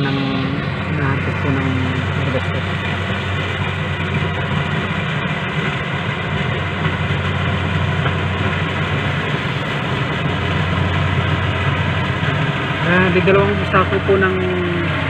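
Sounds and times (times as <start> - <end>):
combine harvester engine hum: 0.0 - 15.0.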